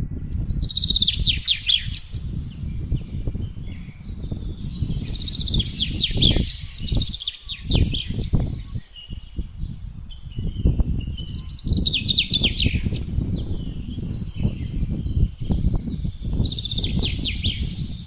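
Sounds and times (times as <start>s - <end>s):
songbirds singing: 0.0s - 18.0s
wind gusting: 0.0s - 18.0s.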